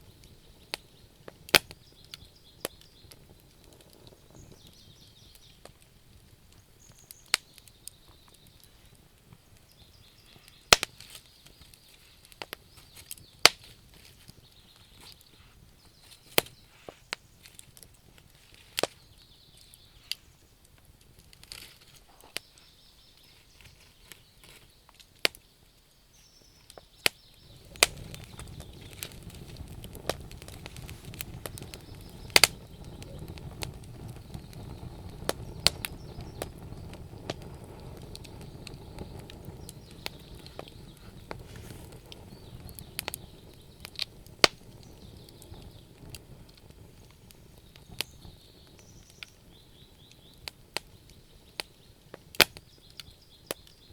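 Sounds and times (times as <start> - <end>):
campfire crackling and popping: 0.0 - 53.9
low rushing of flames: 0.0 - 53.9.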